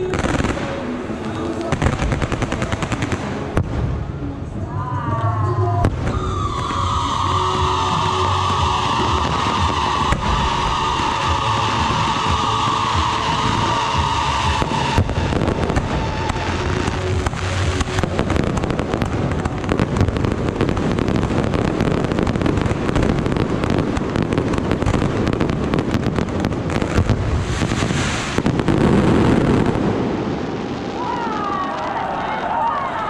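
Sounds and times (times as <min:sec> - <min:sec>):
fireworks bangs and crackling: 0:00.0 - 0:04.7, 0:05.7 - 0:33.0.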